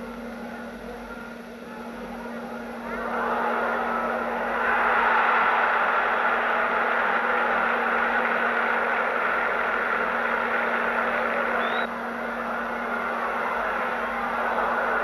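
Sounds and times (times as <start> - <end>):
constant low hum: 0.0 - 15.0
stadium crowd voices: 0.0 - 15.0.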